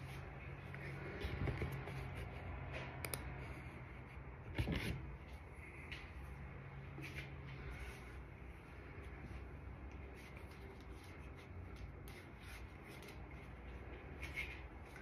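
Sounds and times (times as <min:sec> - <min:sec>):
rustles and knocks of person moving: 0:00.0 - 0:15.0.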